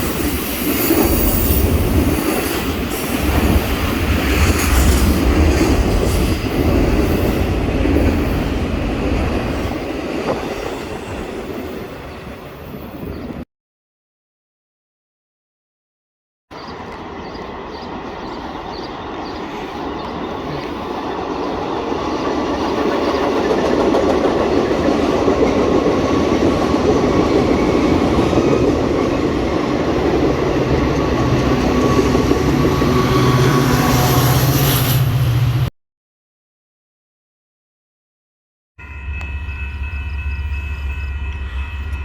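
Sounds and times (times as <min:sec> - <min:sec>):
train wheels rumbling on track: 0:00.0 - 0:13.4, 0:16.5 - 0:35.7, 0:38.8 - 0:42.0.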